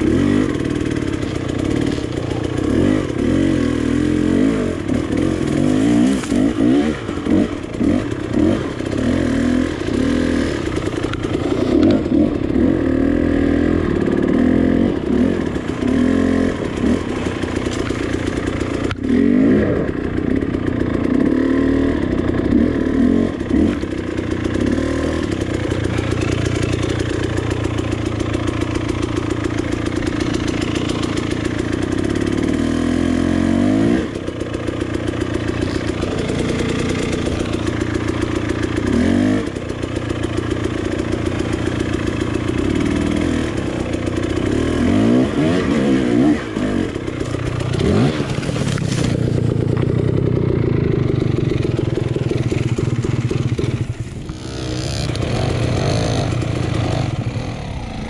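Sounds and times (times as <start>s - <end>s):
dirt bike engine idling: 0.0s - 58.0s
dirt bike engine revving: 0.0s - 58.0s.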